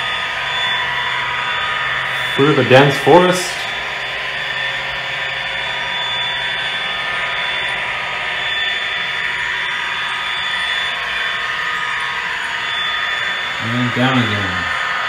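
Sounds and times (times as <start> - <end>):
model locomotive whirring: 0.0 - 15.0.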